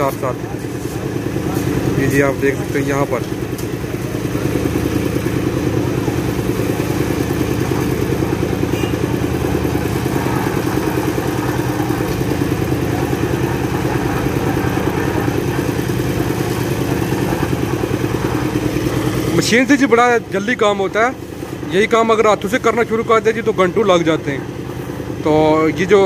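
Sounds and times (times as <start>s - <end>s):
concrete mixer running: 0.0s - 26.0s.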